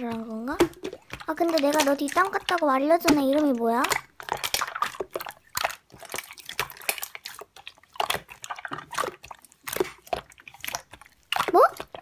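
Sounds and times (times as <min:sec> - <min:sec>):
slime squeezed by hand: 0:00.0 - 0:12.0.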